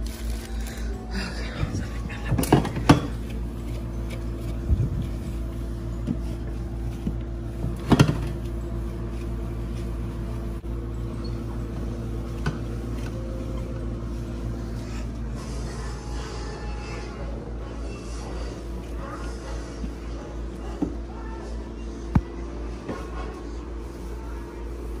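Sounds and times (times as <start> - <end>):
cloth wiping refrigerator: 0.0 - 21.6, 22.4 - 25.0
steady low hum: 0.0 - 25.0.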